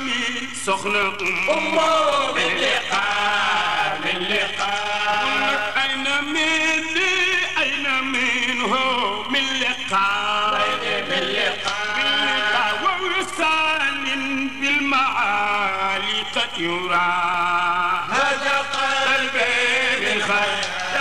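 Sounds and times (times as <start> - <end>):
man chanting melismatically: 0.0 - 21.0.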